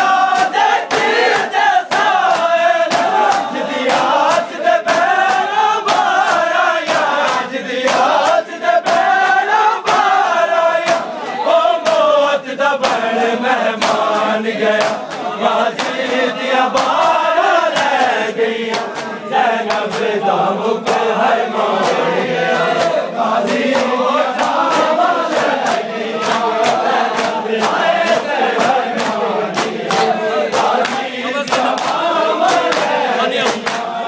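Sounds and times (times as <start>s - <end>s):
men chanting in unison: 0.0s - 34.0s
rhythmic chest slapping: 0.0s - 34.0s.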